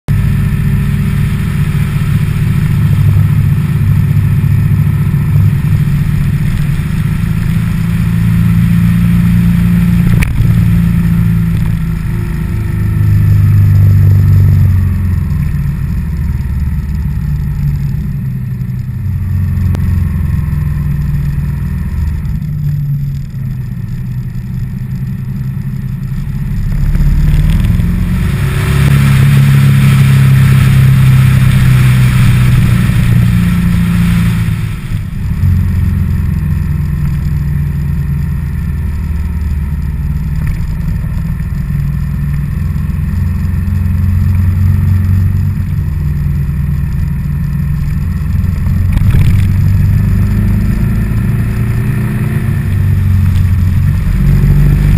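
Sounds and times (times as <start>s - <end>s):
motorcycle engine running: 0.1s - 54.9s.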